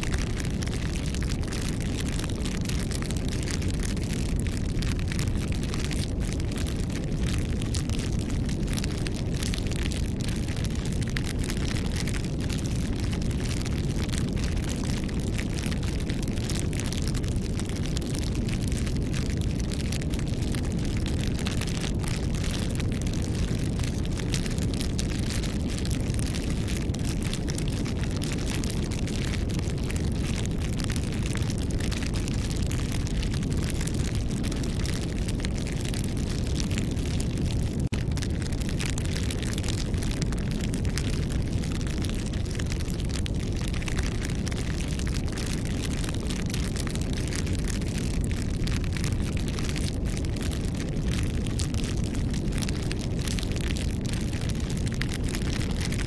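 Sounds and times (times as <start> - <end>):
burning wood crackling and popping: 0.0 - 56.0
low rumble of flames: 0.0 - 56.0.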